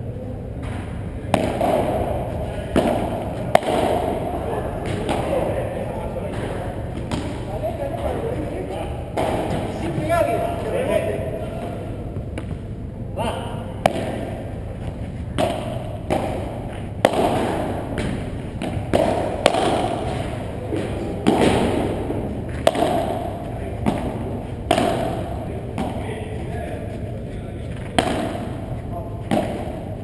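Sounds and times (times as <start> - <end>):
padel ball pocks echoing: 0.6 - 8.4, 9.0 - 12.8, 13.6 - 26.5, 27.8 - 30.0.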